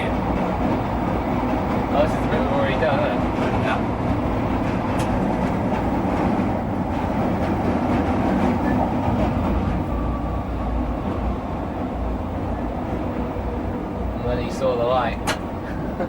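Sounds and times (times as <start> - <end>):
train traction noise: 0.0 - 16.0
train wheels rumbling on rails: 0.0 - 16.0.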